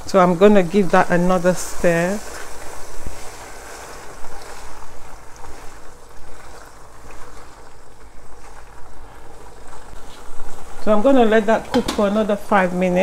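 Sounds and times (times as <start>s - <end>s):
sauce bubbling: 0.0s - 13.0s
spatula stirring sauce: 0.0s - 13.0s.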